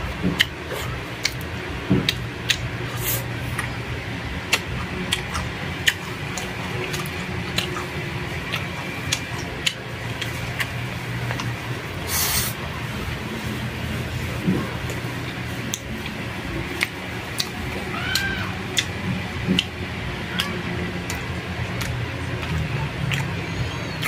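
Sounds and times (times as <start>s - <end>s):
steady low hum: 0.0s - 24.0s
person chewing food: 0.3s - 3.8s, 4.4s - 12.5s, 13.7s - 24.0s.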